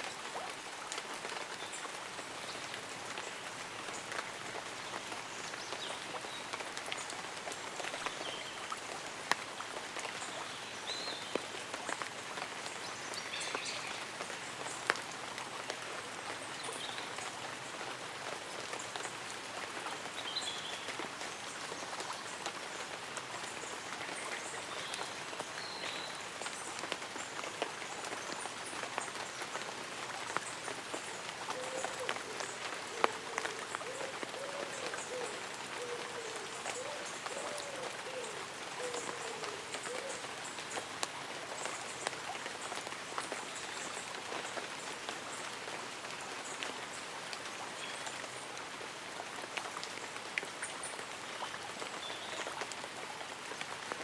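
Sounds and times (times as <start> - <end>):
rain pattering on leaves and umbrella: 0.0 - 54.0.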